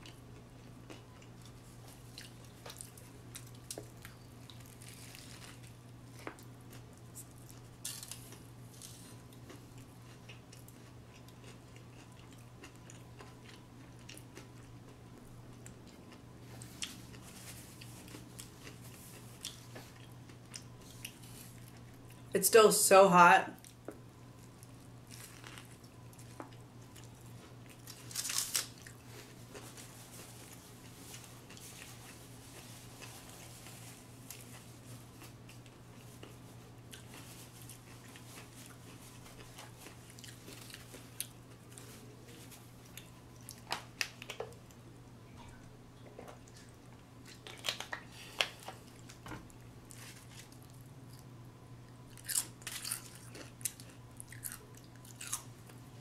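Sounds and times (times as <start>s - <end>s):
crunchy chewing of fried food: 0.0s - 22.3s, 23.6s - 44.9s, 45.5s - 56.0s.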